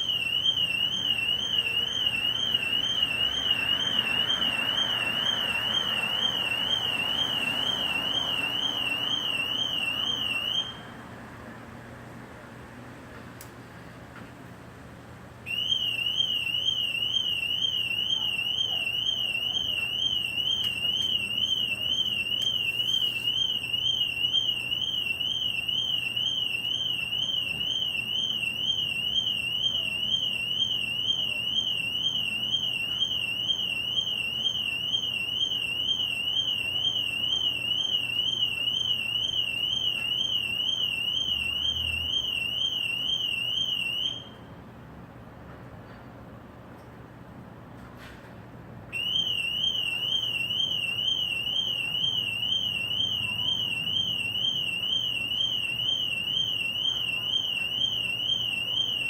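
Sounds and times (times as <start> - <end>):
car alarm siren warbling: 0.0 - 10.9, 15.5 - 44.4, 49.0 - 59.0.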